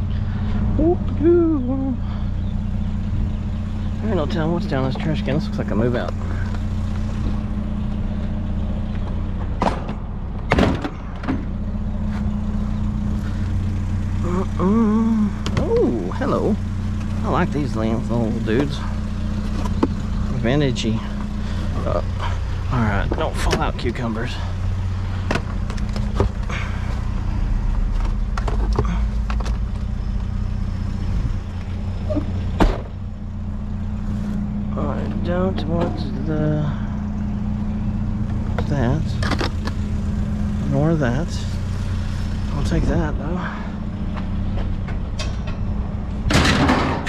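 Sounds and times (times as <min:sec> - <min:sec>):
vehicle engine idling: 0:00.0 - 0:47.0.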